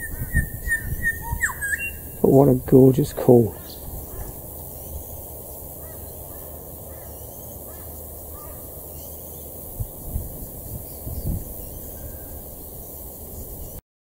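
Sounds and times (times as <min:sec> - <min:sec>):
distant bird calls: 0:00.0 - 0:13.8.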